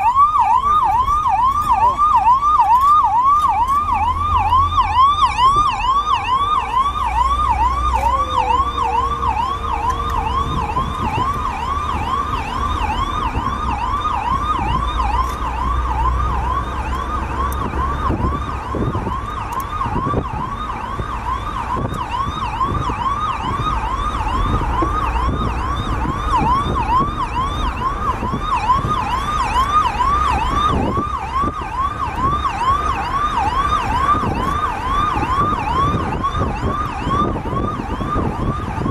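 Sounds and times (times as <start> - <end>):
siren yelping: 0.0 - 38.9.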